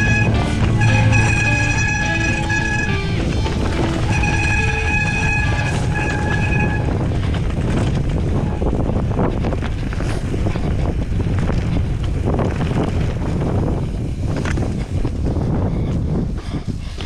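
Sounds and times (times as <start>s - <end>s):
bike rattling over rough trail: 0.0s - 17.0s
wind rushing over microphone: 0.0s - 17.0s.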